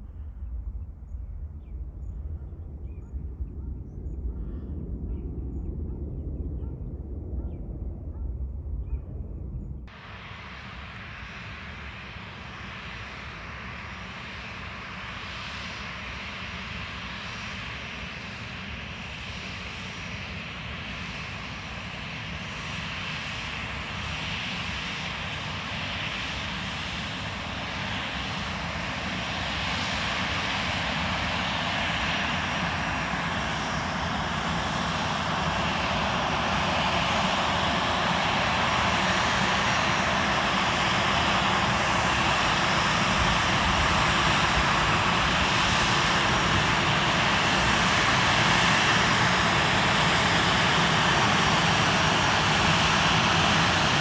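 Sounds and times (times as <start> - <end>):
jet airliner engines running: 0.0 - 54.0.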